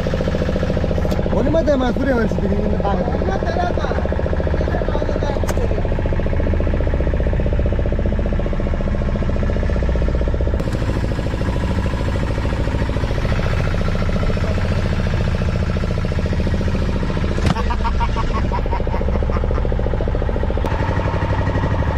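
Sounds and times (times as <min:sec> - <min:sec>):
boat engine idling: 0:00.0 - 0:21.9.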